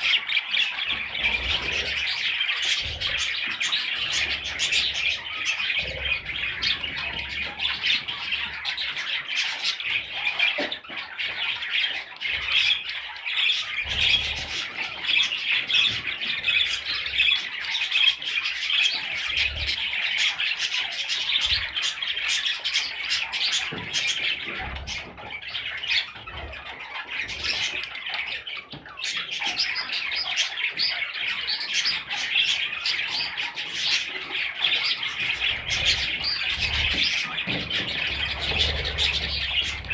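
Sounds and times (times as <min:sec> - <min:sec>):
budgerigar chicks chirping: 0:00.0 - 0:39.9.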